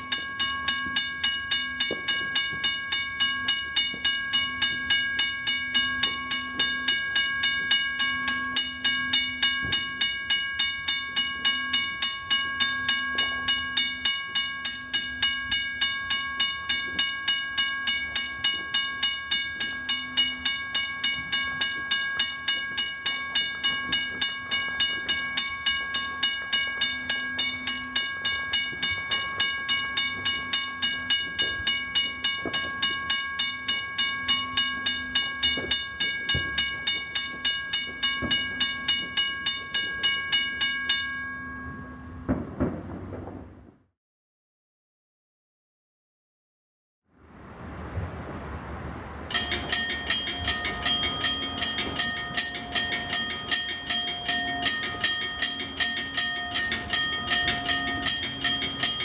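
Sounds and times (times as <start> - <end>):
railroad crossing bell ringing: 0.0 - 42.3, 49.3 - 59.0.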